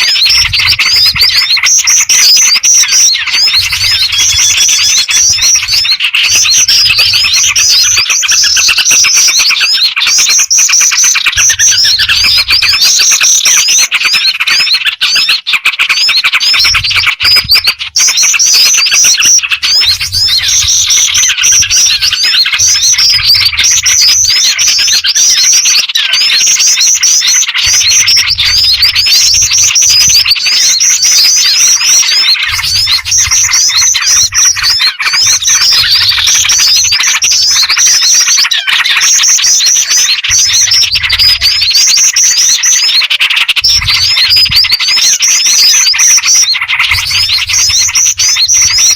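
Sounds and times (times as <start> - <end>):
songbirds chirping and twittering: 0.0 - 48.9.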